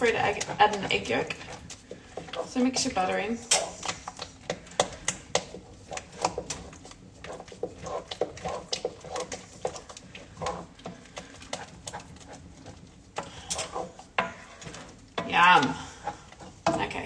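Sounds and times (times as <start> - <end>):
spoon stirring custard: 0.0 - 17.0.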